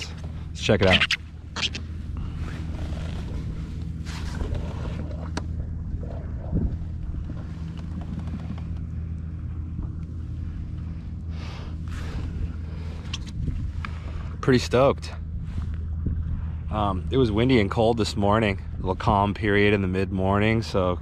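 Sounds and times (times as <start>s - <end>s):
low mechanical engine hum: 0.0s - 21.0s.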